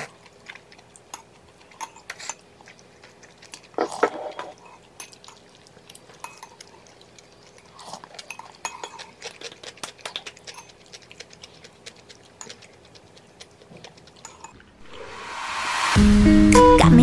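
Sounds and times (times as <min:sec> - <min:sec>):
person chewing noodles: 0:00.0 - 0:14.6.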